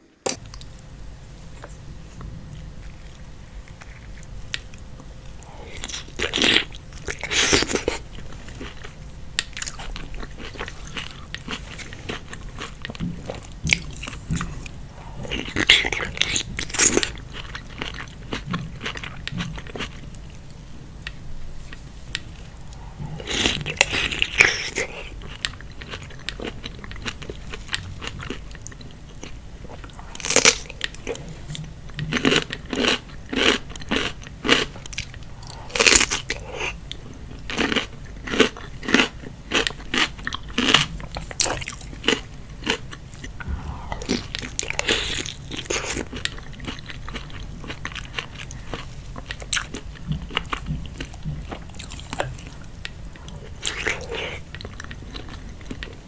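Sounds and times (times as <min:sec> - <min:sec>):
close-miked biting and chewing: 0:01.6 - 0:20.3, 0:21.0 - 0:56.0.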